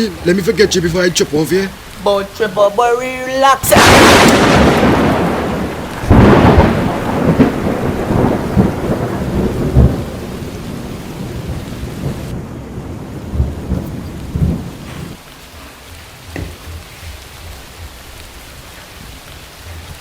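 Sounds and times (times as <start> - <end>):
steady rain: 0.0 - 20.0
thunderclap rumbling: 3.6 - 20.0.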